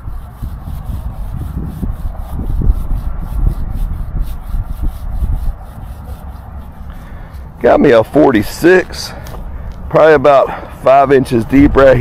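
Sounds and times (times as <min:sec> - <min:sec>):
rubbing against microphone: 0:00.0 - 0:10.5.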